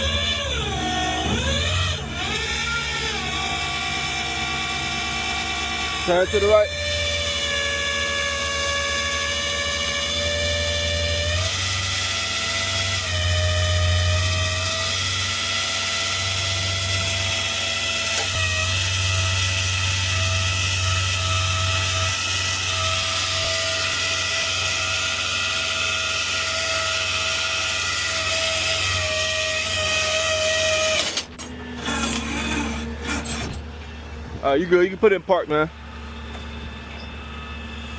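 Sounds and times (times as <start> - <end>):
hydraulic winch whining: 0.0 - 37.9.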